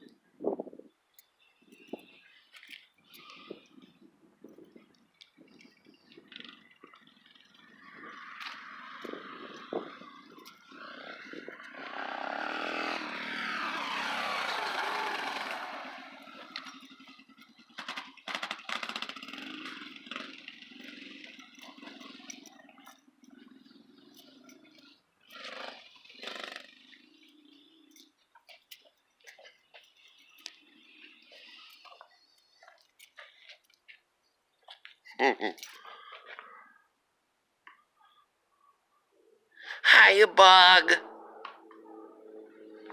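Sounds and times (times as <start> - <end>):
dirt bike passing: 1.5 - 35.0, 35.6 - 36.9, 39.6 - 42.9.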